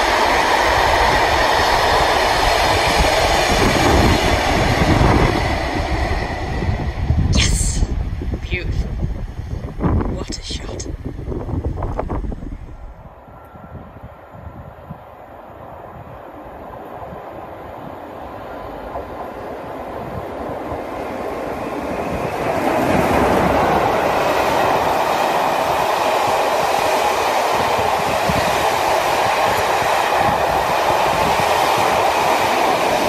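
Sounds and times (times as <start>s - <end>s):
coaches rolling on track: 0.0s - 33.0s
steam train passing: 0.0s - 33.0s.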